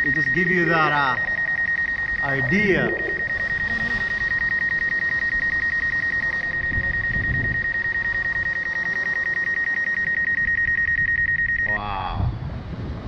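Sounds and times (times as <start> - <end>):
rapid high-pitched warning beeps: 0.0 - 11.8.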